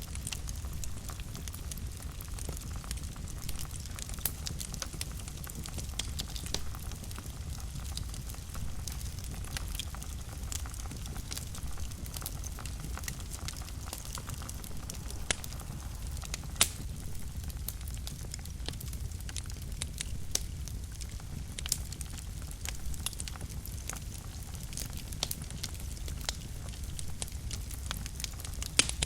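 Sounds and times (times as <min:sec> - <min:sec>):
fireplace fire crackling: 0:00.0 - 0:29.0.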